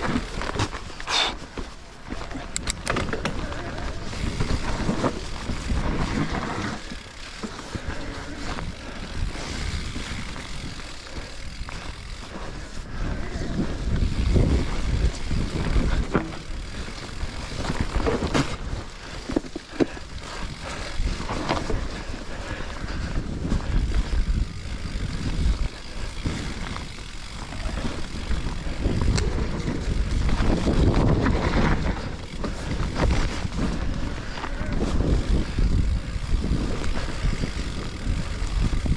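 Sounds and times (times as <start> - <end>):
bike rattling: 0.0 - 38.9
tyres on dirt: 0.0 - 38.9
wind buffeting microphone: 2.0 - 38.9.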